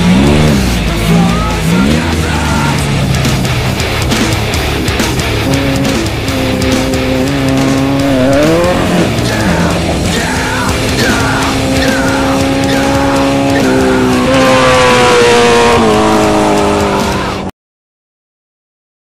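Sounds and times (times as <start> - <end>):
race vehicle engines: 0.0 - 17.5
rock music: 0.0 - 17.5.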